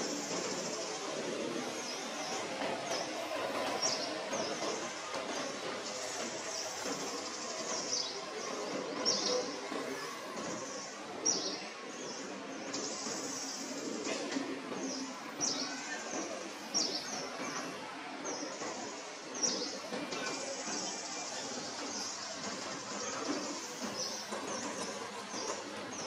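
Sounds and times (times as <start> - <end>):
birds chirping: 0.1 - 26.0.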